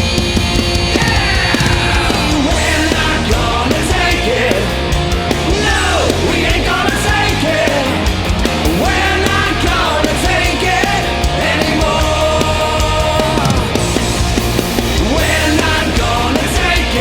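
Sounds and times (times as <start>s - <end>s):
bass: 0.0s - 17.0s
distorted electric guitars: 0.0s - 17.0s
drums: 0.0s - 17.0s.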